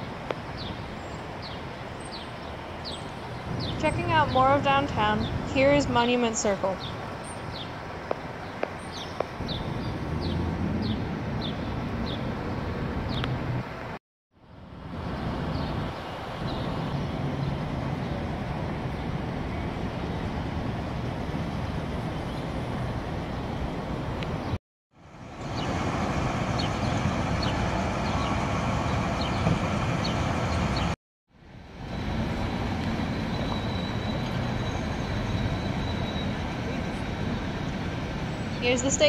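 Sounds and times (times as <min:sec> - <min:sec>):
road traffic noise: 0:00.0 - 0:39.0.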